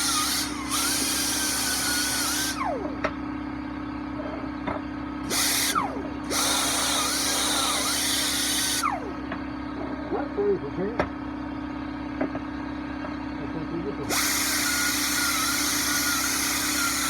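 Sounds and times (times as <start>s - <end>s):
pneumatic grinder whine: 0.0s - 10.2s, 11.3s - 17.0s
air compressor hum: 0.0s - 17.0s.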